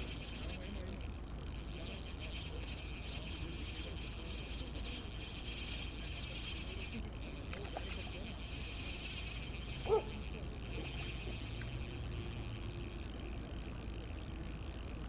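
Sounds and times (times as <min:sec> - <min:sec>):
fishing reel whirring: 0:00.0 - 0:15.0.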